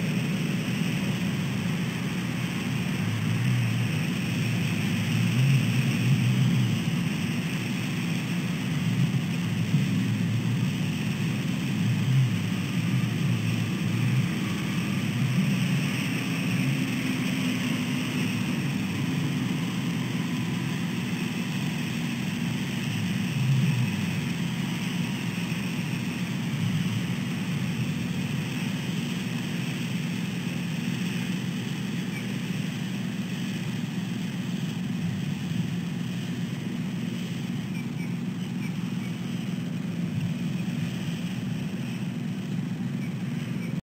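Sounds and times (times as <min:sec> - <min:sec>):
road traffic rumble: 0:00.0 - 0:43.8.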